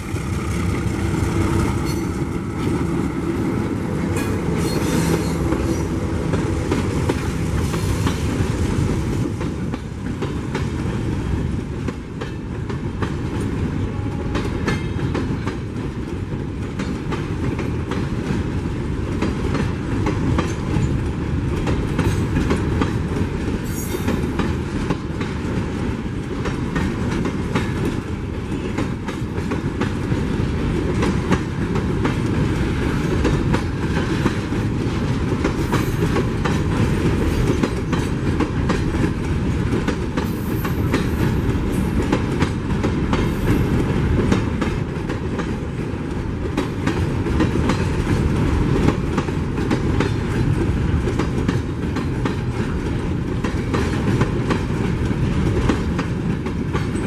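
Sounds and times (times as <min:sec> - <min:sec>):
freight train rolling past: 0:00.0 - 0:57.0
wheels clacking over rail joints: 0:00.0 - 0:57.0.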